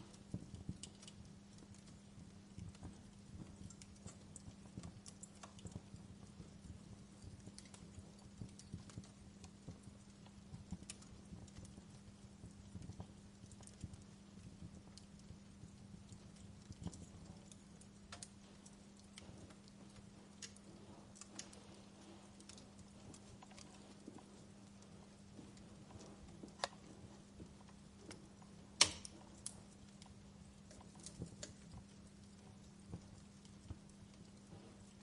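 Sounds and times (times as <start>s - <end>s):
faint low hum: 0.0s - 35.0s
wood fire crackling: 0.0s - 35.0s.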